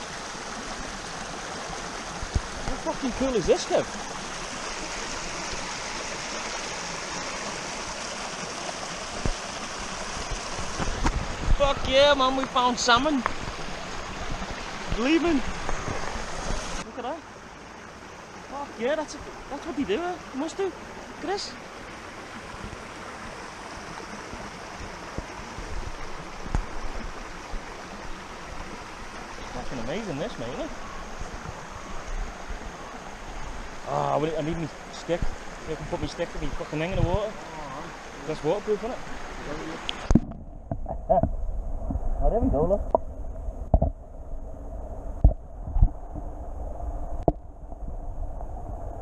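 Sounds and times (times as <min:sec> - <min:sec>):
creek water rushing: 0:00.0 - 0:49.0.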